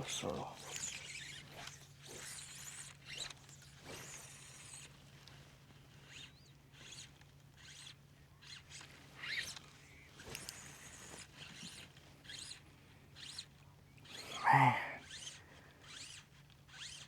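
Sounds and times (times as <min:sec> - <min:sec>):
fly line rasping through rod guides: 0:00.6 - 0:05.0, 0:06.0 - 0:17.0.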